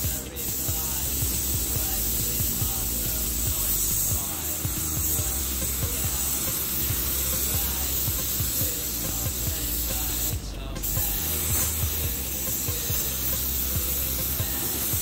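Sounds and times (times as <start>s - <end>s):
paint spray gun hissing: 0.0s - 15.0s.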